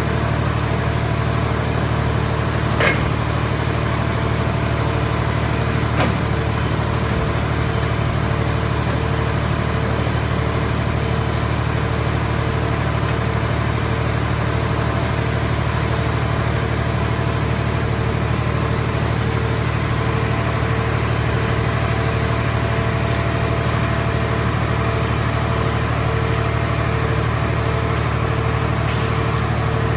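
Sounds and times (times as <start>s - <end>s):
hydraulic power unit droning: 0.0s - 29.9s.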